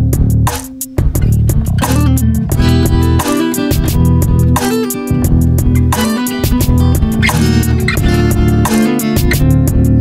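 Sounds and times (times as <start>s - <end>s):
guitar and bass music with beat: 0.0s - 10.0s.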